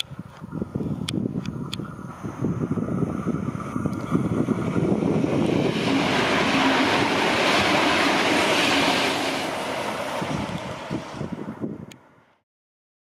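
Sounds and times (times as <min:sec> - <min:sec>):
diesel train passing at speed: 0:00.0 - 0:12.4.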